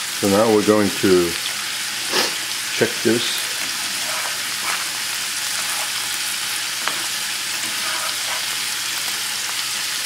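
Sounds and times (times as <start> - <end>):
cutlets sizzling in a pan: 0.0 - 10.0.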